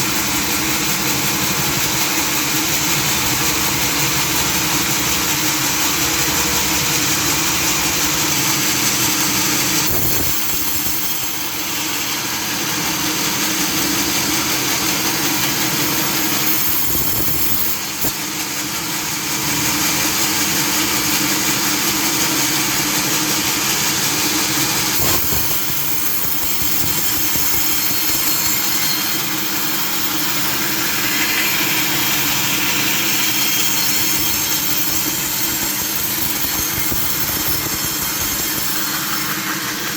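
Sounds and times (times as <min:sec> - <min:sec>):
sawmill machinery humming and hissing: 0:00.0 - 0:39.9.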